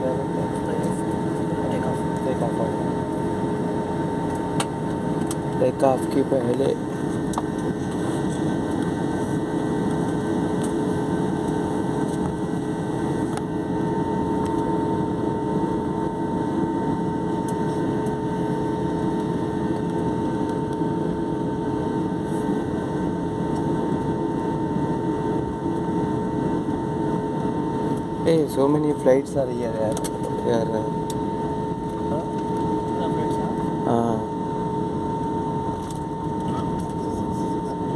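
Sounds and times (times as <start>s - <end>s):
jet engines droning in cabin: 0.0s - 37.9s.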